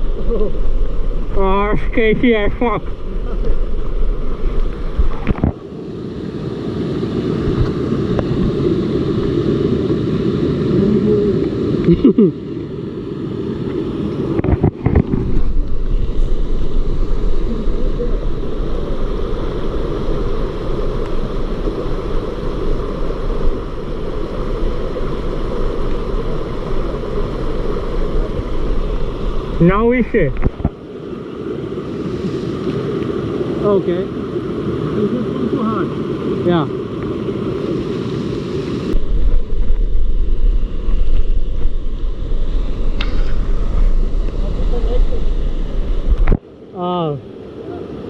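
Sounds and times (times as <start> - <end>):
waterfall and stream rushing: 0.0 - 48.0.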